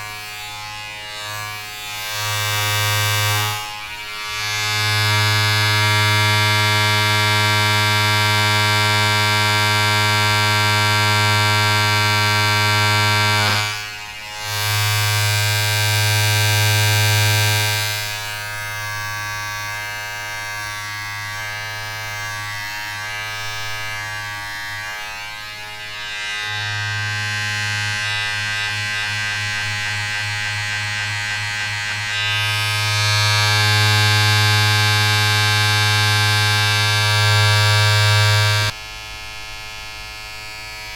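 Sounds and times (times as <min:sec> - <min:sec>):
electric buzz with low hum: 0:00.0 - 0:40.9.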